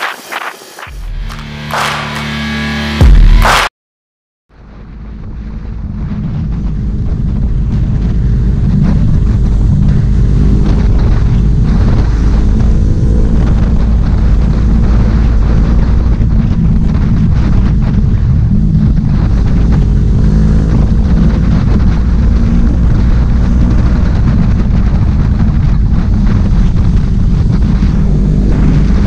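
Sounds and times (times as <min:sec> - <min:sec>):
motorcycle engine running: 0:00.8 - 0:03.6, 0:04.9 - 0:29.0
wind noise on microphone: 0:04.5 - 0:29.0.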